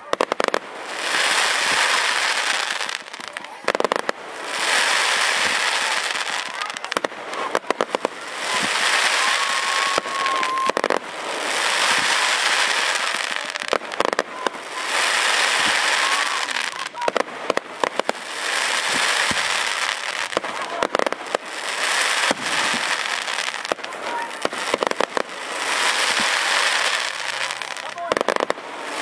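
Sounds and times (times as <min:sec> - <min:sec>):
fireworks crackling: 0:00.0 - 0:29.0
fireworks popping: 0:00.0 - 0:29.0.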